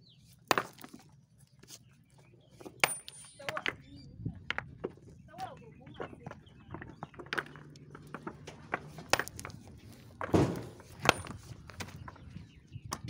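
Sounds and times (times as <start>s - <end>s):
loose stones clattering: 0.3s - 13.0s.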